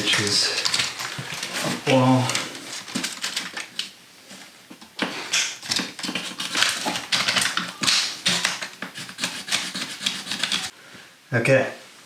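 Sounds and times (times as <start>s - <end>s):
objects being handled: 0.0s - 10.7s
scraping and rubbing noises: 0.0s - 10.8s.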